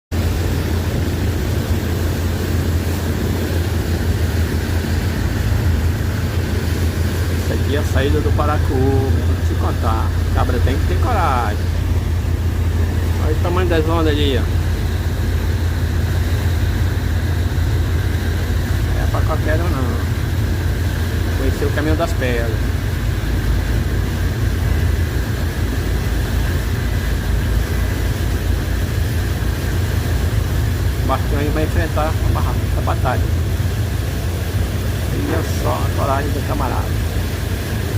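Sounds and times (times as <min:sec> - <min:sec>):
boat engine droning: 0:00.1 - 0:37.9
constant rushing noise: 0:00.1 - 0:37.9
faint steady whine: 0:00.2 - 0:37.9.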